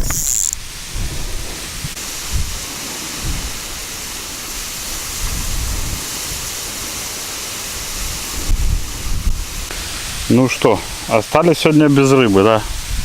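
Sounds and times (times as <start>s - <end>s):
wind buffeting microphone: 0.0s - 11.3s, 12.2s - 13.0s.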